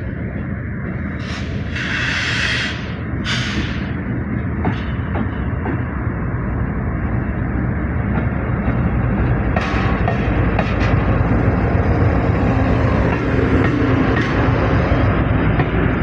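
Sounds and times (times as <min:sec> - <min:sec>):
diesel locomotive rumbling: 0:00.0 - 0:16.0.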